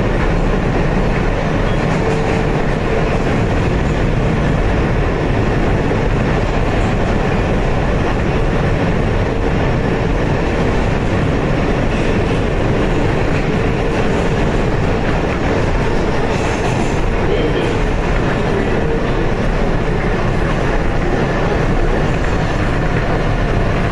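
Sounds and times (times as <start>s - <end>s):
wheels rumbling on rail: 0.0s - 23.9s.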